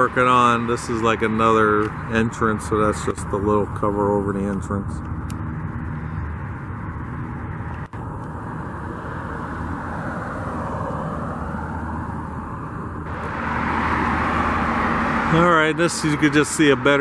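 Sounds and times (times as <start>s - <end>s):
rumbling traffic noise: 0.0s - 17.0s.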